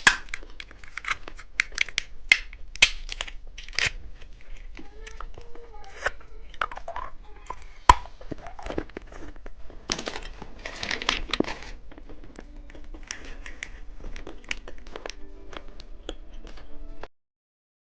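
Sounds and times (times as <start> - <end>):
plastic wrapper crinkling: 0.0 - 16.1.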